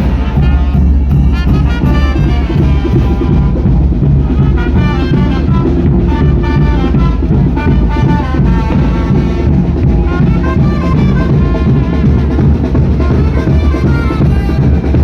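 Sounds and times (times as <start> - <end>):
brass band with drums: 0.0 - 15.0.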